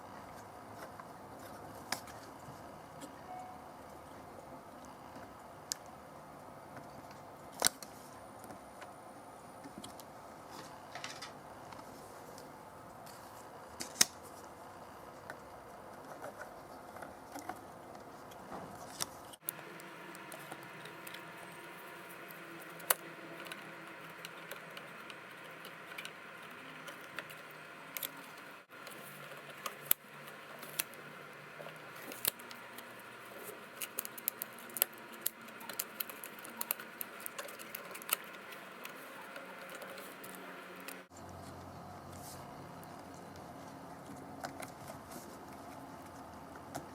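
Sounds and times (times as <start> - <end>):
steady background hum: 0.0 - 46.9.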